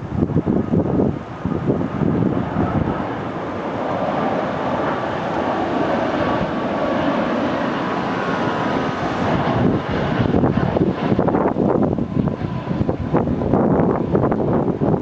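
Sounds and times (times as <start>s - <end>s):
jet engines roaring: 0.0s - 15.0s
rushing air: 0.0s - 15.0s.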